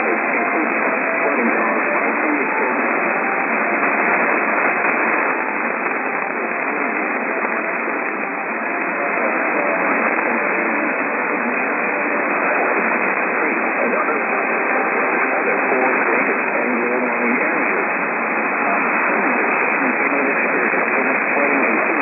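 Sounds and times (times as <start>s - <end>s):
faint voice: 0.0s - 22.0s
radio static: 0.0s - 22.0s.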